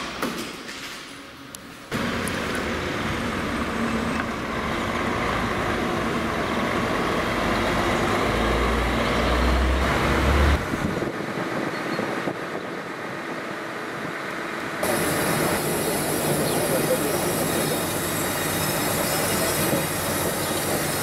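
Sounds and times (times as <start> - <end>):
street traffic noise: 0.0 - 21.0
garbage truck diesel engine: 1.8 - 11.5, 12.4 - 21.0.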